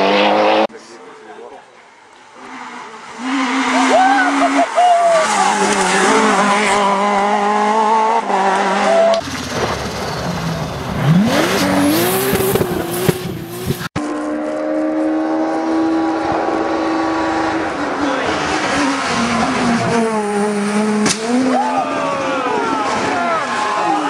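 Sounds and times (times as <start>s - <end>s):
rally car engine revving: 0.0s - 0.7s, 2.3s - 24.0s.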